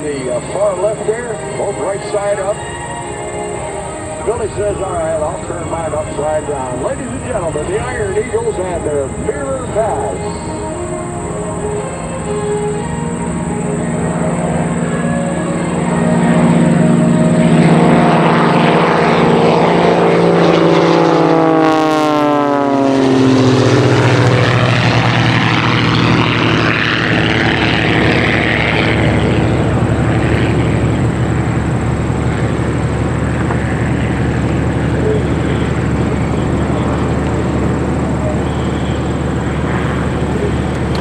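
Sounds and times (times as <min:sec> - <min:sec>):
propeller planes flying past: 0:00.0 - 0:41.0.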